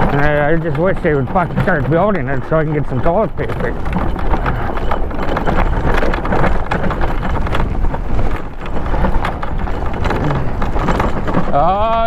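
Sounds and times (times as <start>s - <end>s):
bike rattling: 0.0s - 12.0s
tyres crunching over gravel: 0.0s - 12.0s.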